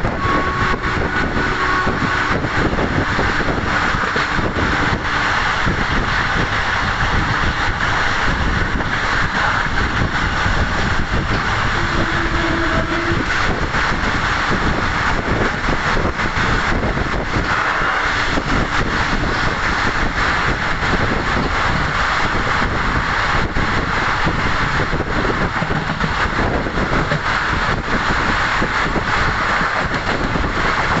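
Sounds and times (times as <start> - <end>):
train wheels rushing on rails: 0.0 - 31.0
wind rushing: 0.0 - 31.0.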